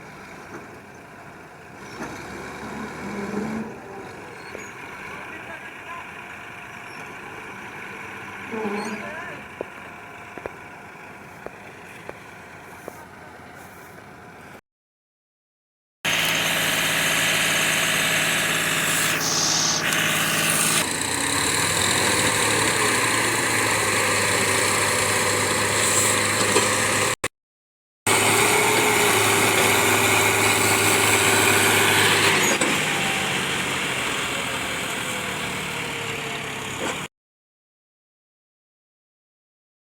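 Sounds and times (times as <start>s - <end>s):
diesel farm machine engine running: 0.1s - 14.6s, 16.1s - 27.2s, 28.1s - 37.1s.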